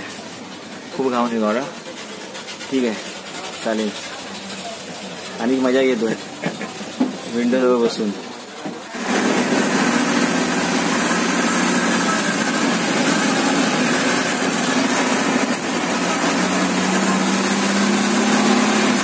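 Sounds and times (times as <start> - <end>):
bus engine hum: 0.0 - 19.0.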